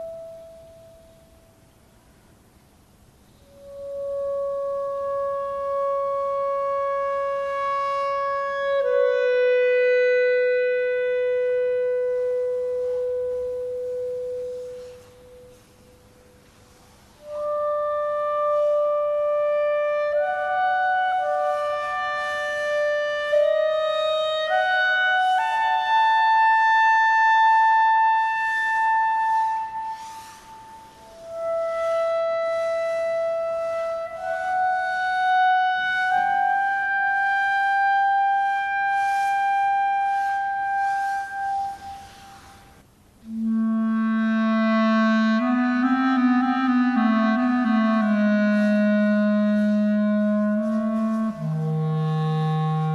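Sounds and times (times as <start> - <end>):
solo clarinet long notes: 0.0 - 1.8, 3.3 - 52.9.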